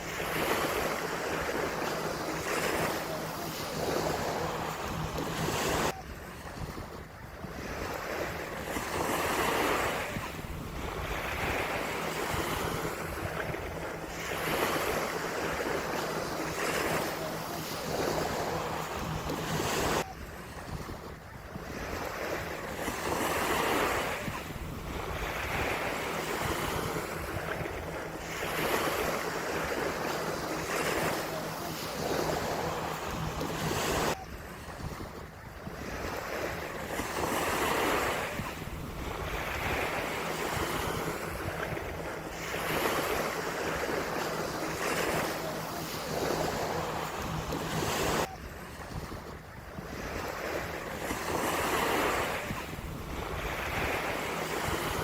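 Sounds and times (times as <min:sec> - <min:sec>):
surf breaking on beach: 0:00.0 - 0:55.0
wind on microphone: 0:00.0 - 0:55.0.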